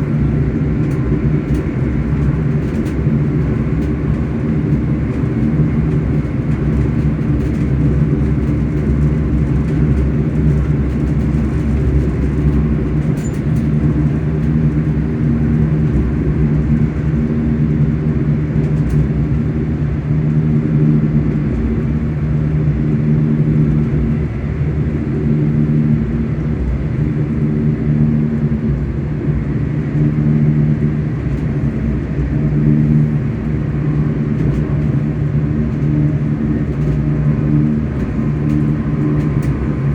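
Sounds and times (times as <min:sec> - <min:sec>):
train motors humming: 0:00.0 - 0:39.9
train running rumble: 0:00.0 - 0:39.9.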